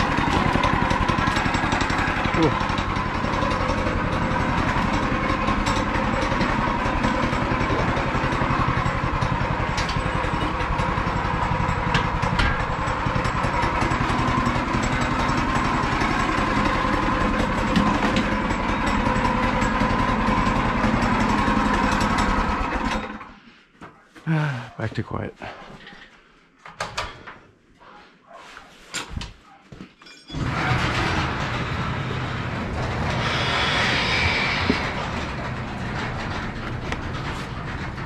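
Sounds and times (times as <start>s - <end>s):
go-kart engine idling: 0.0s - 23.5s, 30.4s - 38.0s.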